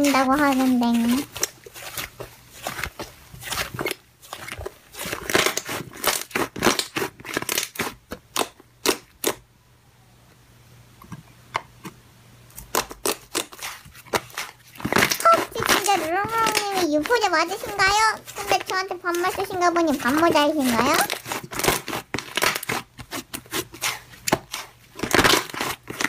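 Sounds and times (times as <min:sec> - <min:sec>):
slime squeezed with sticky pops: 0:00.0 - 0:09.4, 0:12.6 - 0:26.0.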